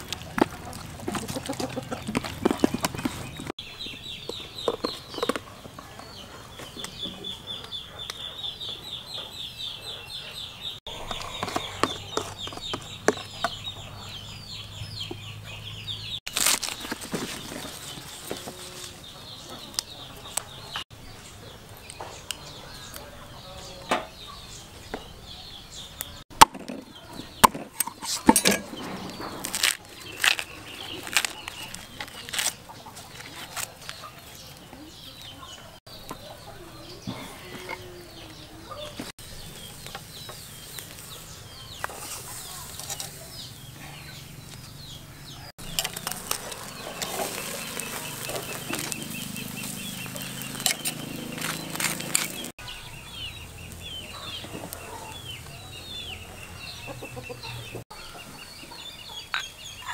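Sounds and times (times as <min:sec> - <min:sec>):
chickens clucking: 0:00.0 - 0:16.2, 0:17.2 - 0:20.8, 0:21.4 - 0:59.9.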